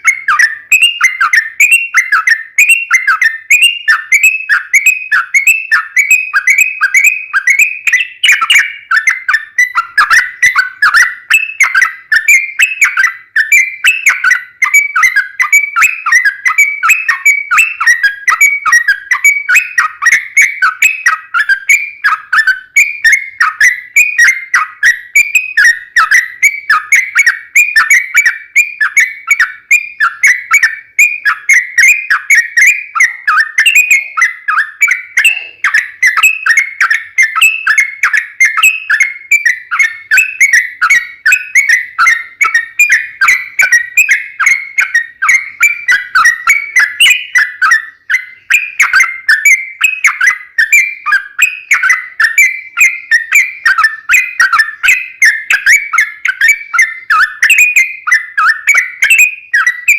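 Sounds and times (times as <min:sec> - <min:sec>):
bird singing rapid whistled notes: 0:00.0 - 0:59.9.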